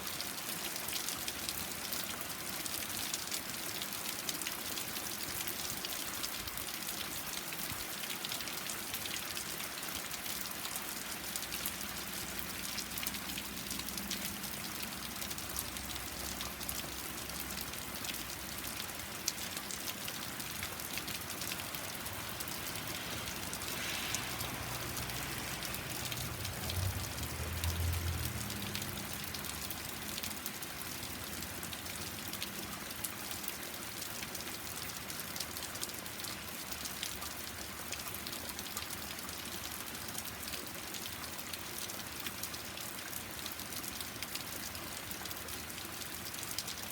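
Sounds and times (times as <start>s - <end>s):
rain falling on a deck: 0.0s - 46.9s.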